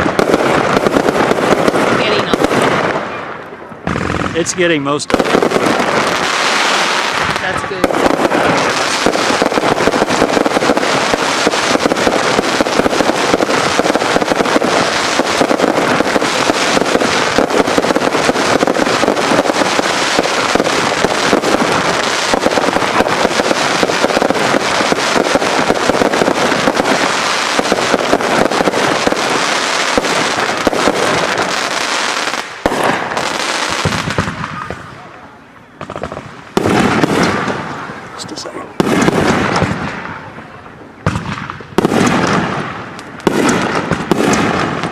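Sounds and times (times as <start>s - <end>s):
crackling fireworks: 0.0s - 44.9s.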